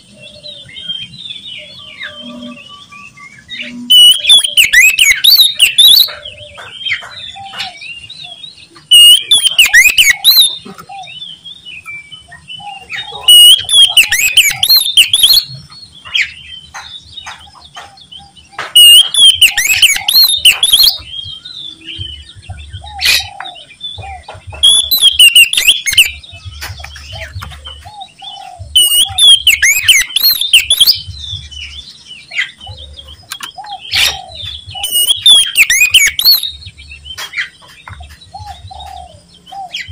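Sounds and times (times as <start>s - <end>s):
bird singing warbled notes: 0.0s - 39.9s
soft bird chirps: 0.0s - 39.9s.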